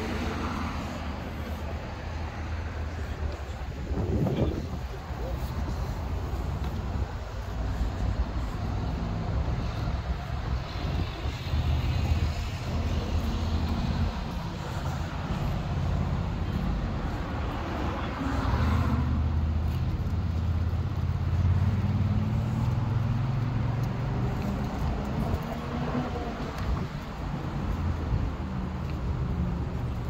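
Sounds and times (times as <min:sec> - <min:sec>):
vehicles passing: 0:00.0 - 0:30.0.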